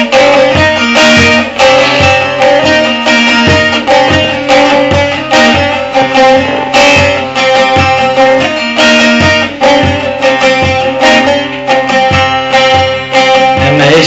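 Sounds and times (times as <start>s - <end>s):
long-necked lute strummed: 0.0s - 14.0s.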